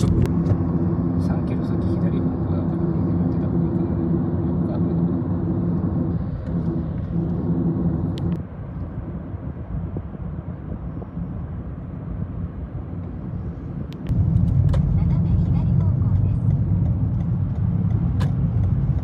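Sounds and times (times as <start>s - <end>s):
car cabin road noise: 0.0s - 19.0s.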